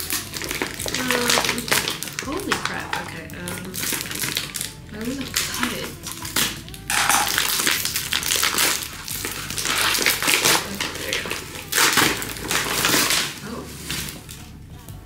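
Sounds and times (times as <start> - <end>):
plastic packaging crinkling: 0.0 - 14.6.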